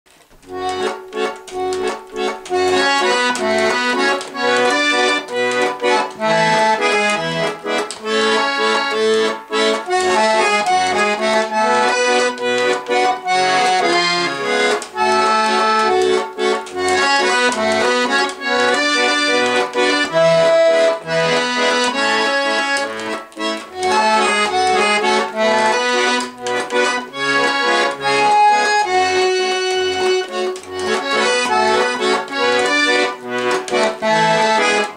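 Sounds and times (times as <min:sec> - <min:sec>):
button accordion playing lively melody: 0:00.1 - 0:34.9.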